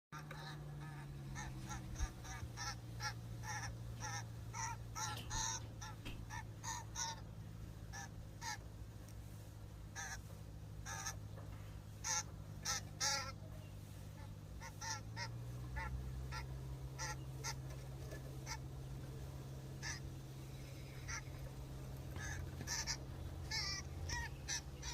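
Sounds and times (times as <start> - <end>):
grackles calling: 0.2 - 9.2, 9.8 - 24.9
steady low hum: 0.2 - 24.9.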